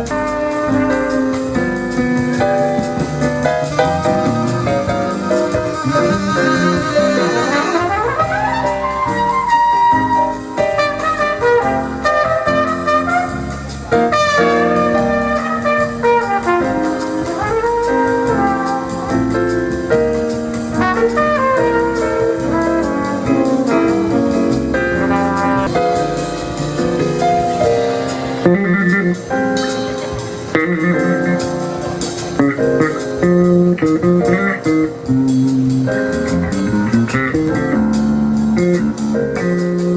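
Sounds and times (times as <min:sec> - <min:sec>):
bass: 0:00.0 - 0:39.9
drums: 0:00.0 - 0:39.9
piano: 0:00.0 - 0:39.9
wind instrument melody: 0:00.0 - 0:39.9.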